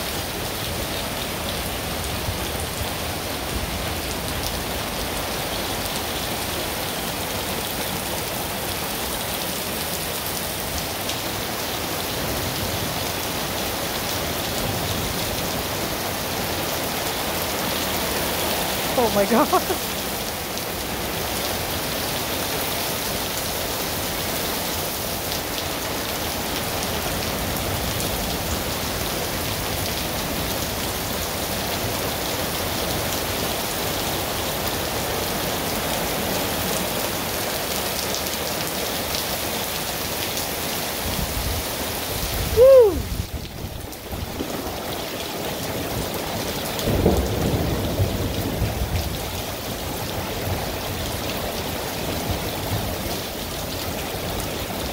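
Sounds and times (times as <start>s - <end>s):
heavy rain and hail: 0.0s - 54.9s.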